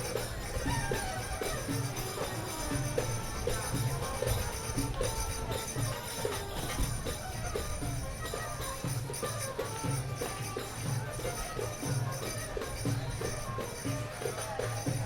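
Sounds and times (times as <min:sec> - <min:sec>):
jingling percussion: 0:00.0 - 0:15.0.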